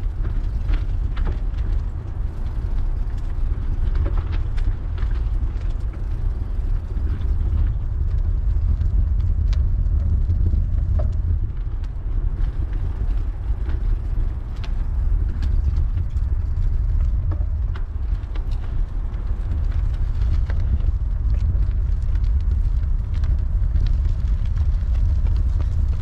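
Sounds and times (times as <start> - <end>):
bike tyres rolling on gravel: 0.0 - 26.0
grit clicking under tyres: 0.0 - 26.0.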